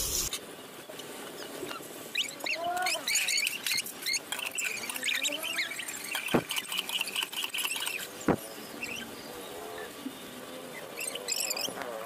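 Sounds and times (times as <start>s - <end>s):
parakeets chirping and squeaking: 1.4s - 10.0s, 10.7s - 12.0s.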